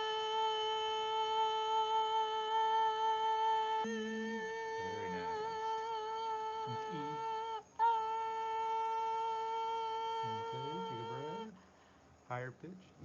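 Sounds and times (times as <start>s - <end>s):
woman singing sustained note: 0.0s - 11.6s.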